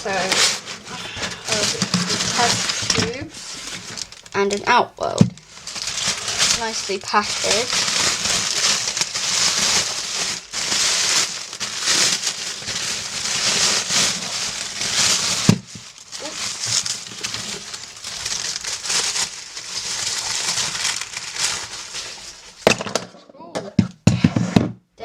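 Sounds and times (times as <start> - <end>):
plastic packaging crinkling: 0.0 - 23.2.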